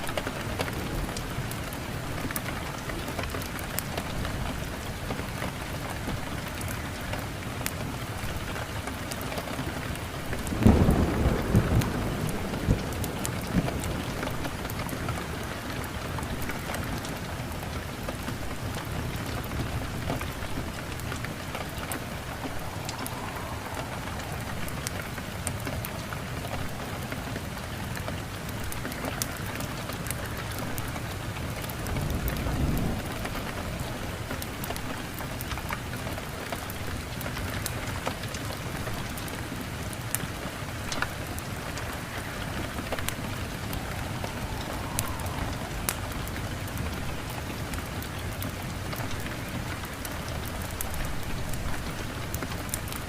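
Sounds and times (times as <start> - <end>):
steady rain: 0.0 - 53.0
low rumble of thunder: 8.1 - 53.0.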